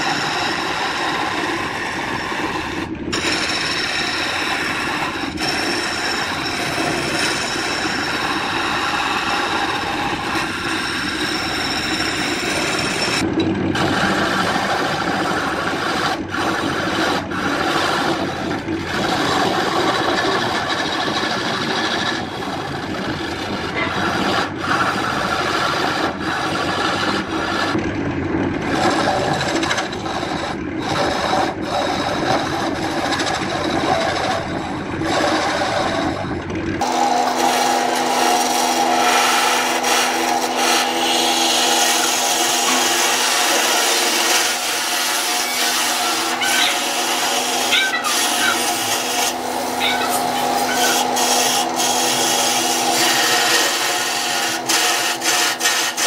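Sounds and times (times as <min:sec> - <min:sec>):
turning tool scraping wood: 0:00.0 - 0:27.9, 0:28.5 - 0:56.0
wood lathe running: 0:00.0 - 0:56.0.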